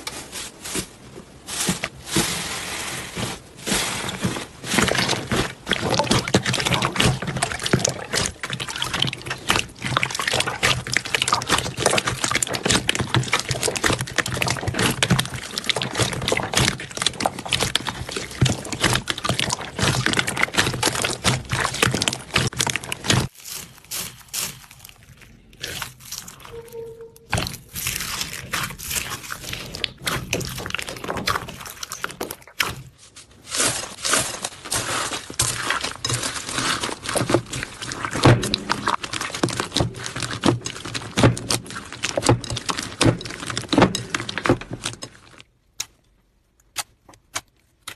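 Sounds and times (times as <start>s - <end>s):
slime squelching: 0.0s - 47.9s.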